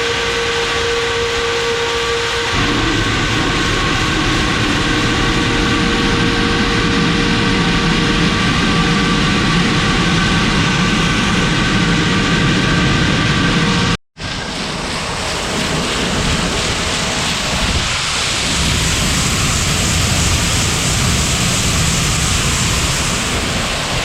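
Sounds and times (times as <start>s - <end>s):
combine harvester engine droning: 0.0s - 24.0s.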